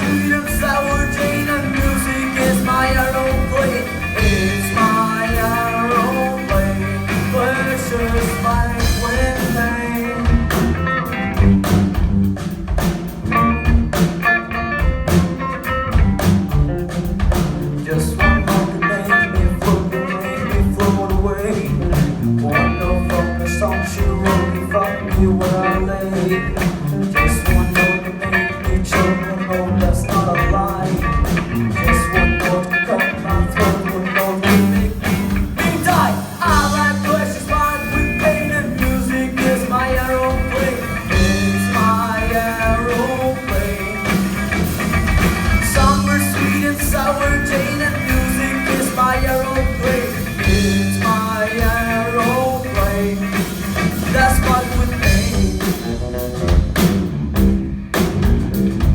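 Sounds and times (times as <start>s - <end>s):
rock band playing: 0.0s - 58.9s.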